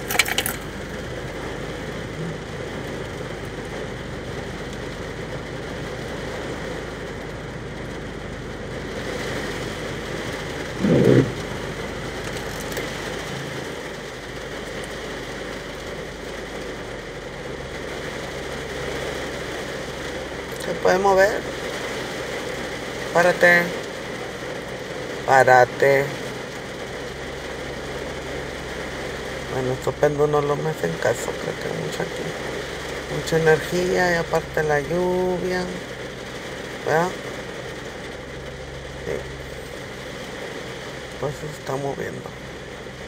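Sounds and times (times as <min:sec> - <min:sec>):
rain hissing: 0:00.0 - 0:43.0.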